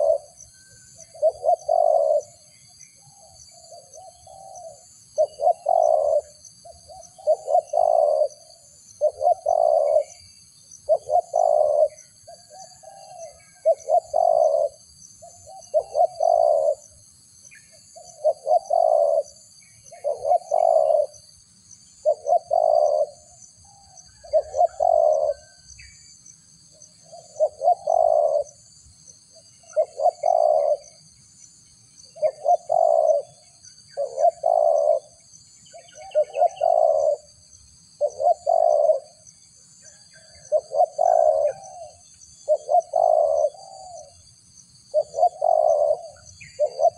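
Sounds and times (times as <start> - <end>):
dove-like cooing lure call: 0.0 - 46.9.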